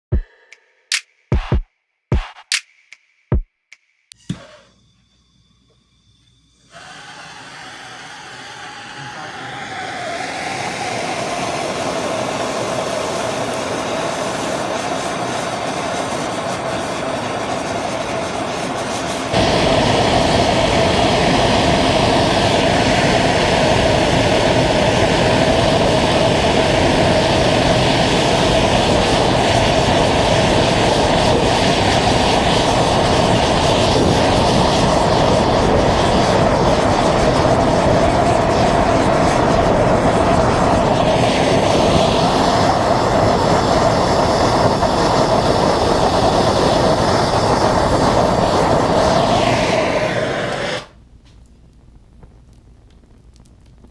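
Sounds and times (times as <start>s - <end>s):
blowtorch flame rushing: 6.7s - 51.0s.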